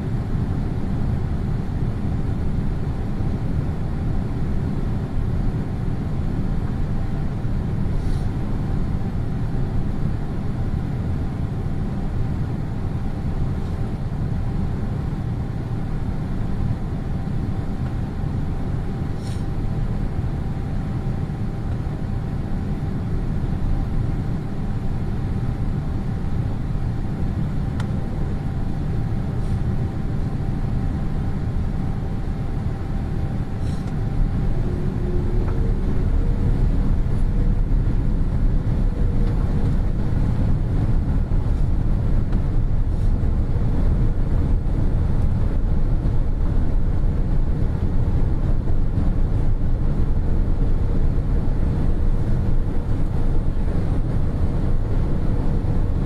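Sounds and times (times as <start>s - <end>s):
airliner cabin rumble: 0.0s - 56.0s
faint steady whine: 0.0s - 56.0s.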